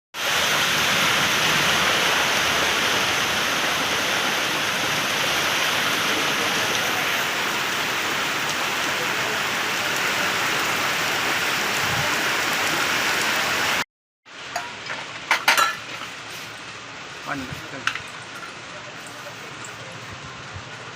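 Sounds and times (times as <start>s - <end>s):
heavy rain falling: 0.2s - 20.9s.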